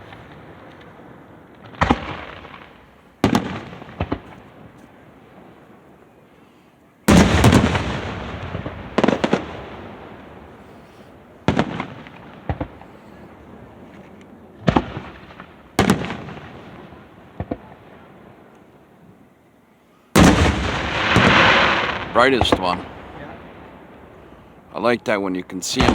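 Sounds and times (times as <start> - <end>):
fireworks bursting with echo: 0.0 - 6.0, 7.1 - 18.8, 20.1 - 25.9.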